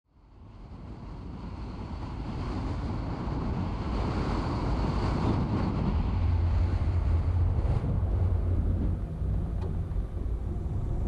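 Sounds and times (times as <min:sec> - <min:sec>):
car tyre and wind noise: 0:00.1 - 0:11.0.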